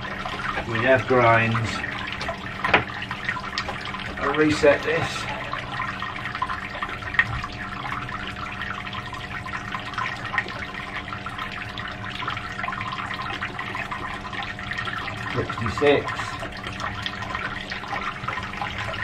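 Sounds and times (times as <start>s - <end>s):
steady electrical hum: 0.0s - 19.0s
water trickling and crackling: 0.0s - 19.0s.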